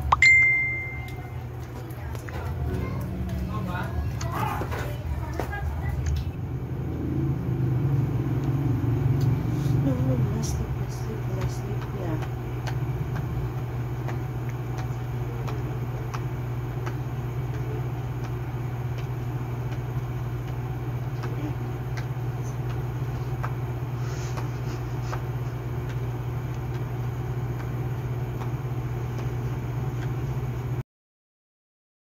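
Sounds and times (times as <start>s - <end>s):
low mechanical hum: 0.0s - 30.8s.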